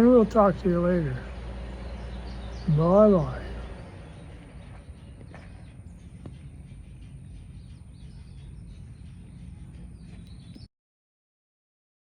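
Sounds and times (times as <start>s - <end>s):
low steady hum: 0.0s - 10.7s
bird chirps: 0.2s - 10.7s.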